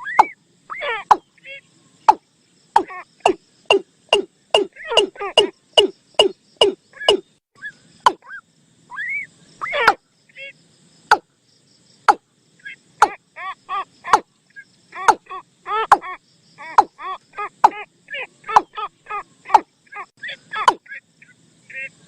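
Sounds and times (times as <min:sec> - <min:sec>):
bird calls: 0:00.0 - 0:11.3, 0:12.0 - 0:22.0.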